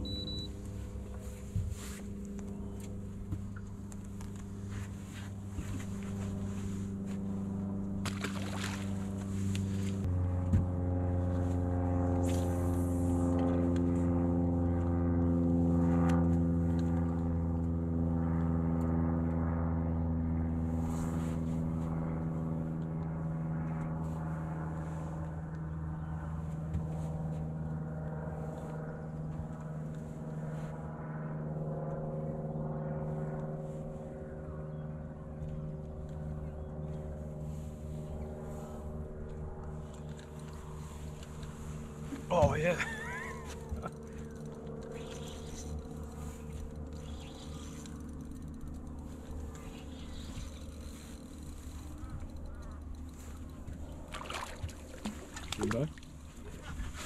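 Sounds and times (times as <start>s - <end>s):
electric trolling motor humming: 0.0s - 57.0s.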